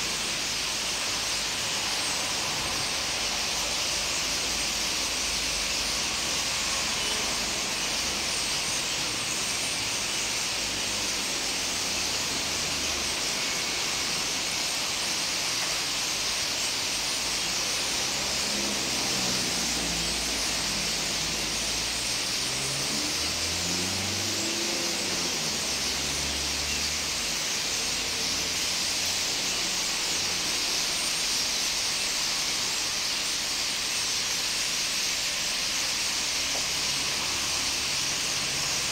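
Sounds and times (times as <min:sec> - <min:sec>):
flock of birds chattering: 0:00.0 - 0:38.9.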